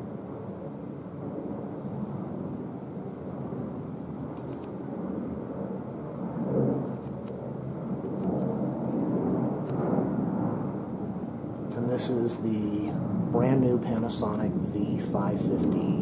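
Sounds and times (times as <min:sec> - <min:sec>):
low rumbling outdoor background noise: 0:00.0 - 0:16.0.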